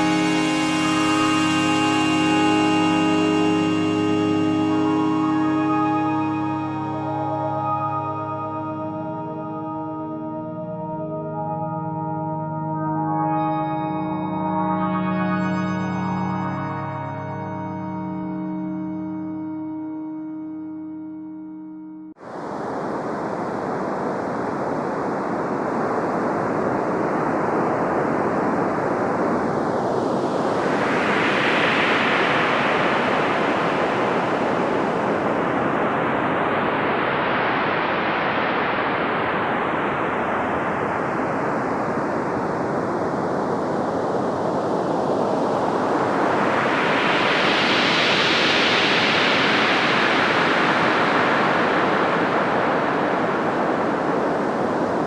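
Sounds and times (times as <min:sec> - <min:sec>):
synthesizer noise pad: 0:00.0 - 0:55.0.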